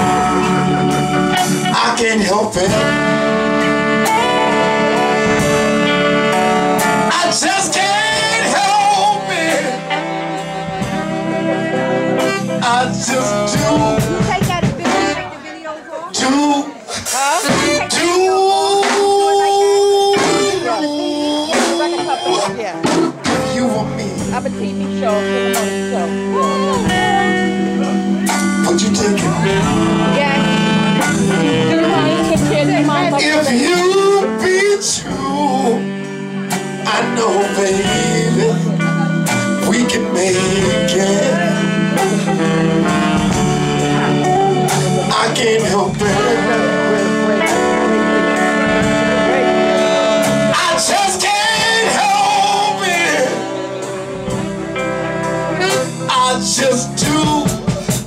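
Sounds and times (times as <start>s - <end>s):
man singing: 0.0s - 15.4s, 16.0s - 58.0s
live band playing: 0.0s - 58.0s
saxophones playing: 0.0s - 58.0s.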